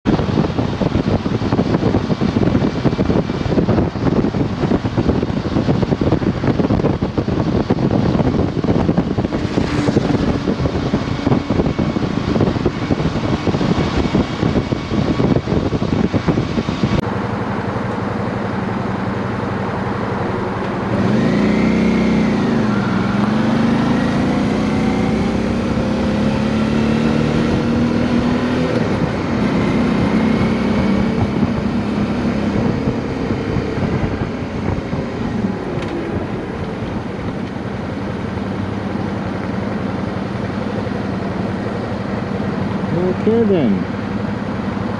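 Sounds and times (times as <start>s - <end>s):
motorcycle engine: 0.0s - 44.9s
wind rushing over microphone: 0.0s - 44.9s.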